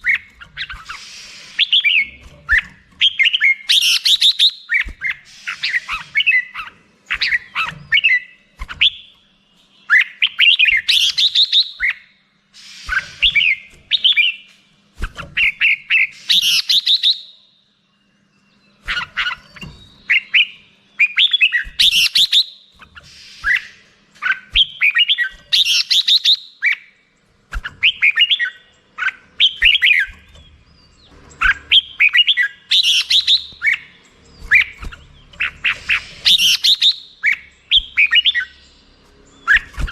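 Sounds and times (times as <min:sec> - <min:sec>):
bulbul singing chirps and whistles: 0:00.0 - 0:14.5, 0:15.4 - 0:39.9.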